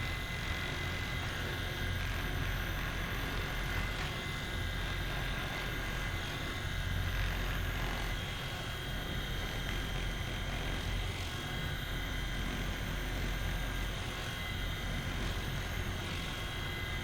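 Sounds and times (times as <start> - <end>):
percussion massager motor drone: 0.0 - 17.0.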